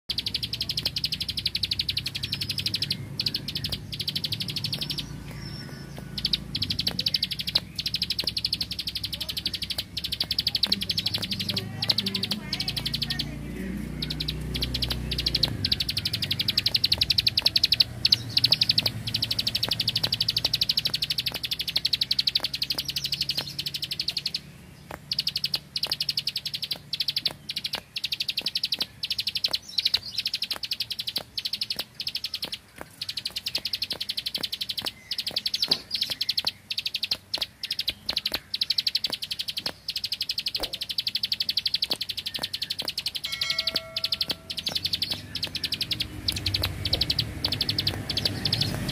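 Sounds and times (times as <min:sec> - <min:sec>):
bird calling in dry high clicks: 0:00.1 - 0:48.9.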